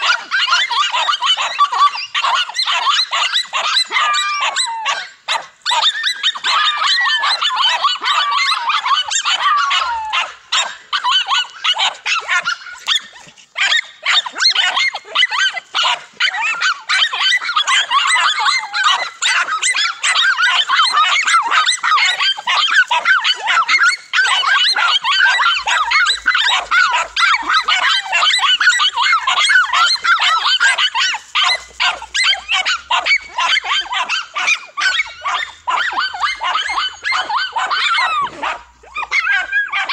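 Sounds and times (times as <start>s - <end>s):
dogs barking and yapping: 0.0s - 39.9s
dogs whining yelps: 0.0s - 39.9s.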